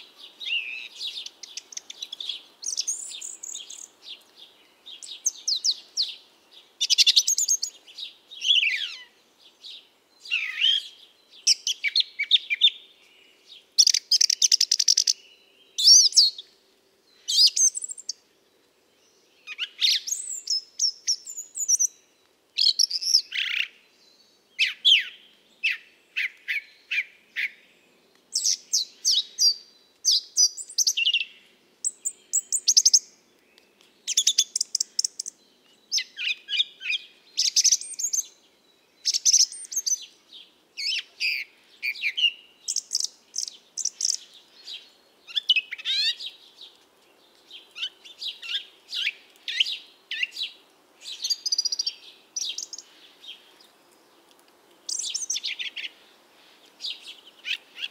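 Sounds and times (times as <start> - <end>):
birdsong with chirps and trills: 0.0 - 57.9.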